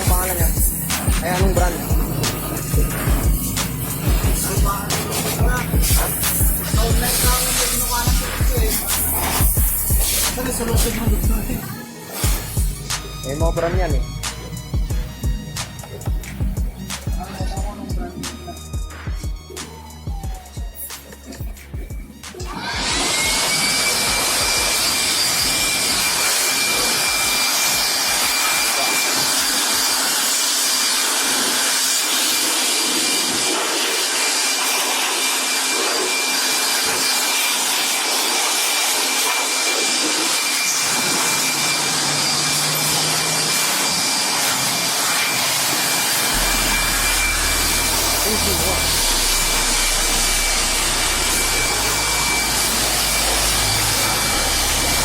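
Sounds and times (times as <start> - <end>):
water spray hiss: 0.0 - 13.2, 23.0 - 55.0
pressure washer whine: 0.0 - 55.0.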